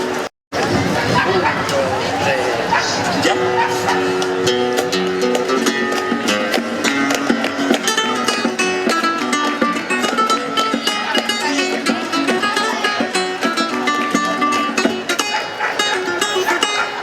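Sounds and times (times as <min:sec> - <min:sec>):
acoustic guitars strummed: 0:00.0 - 0:17.0
held melody notes: 0:02.5 - 0:17.0.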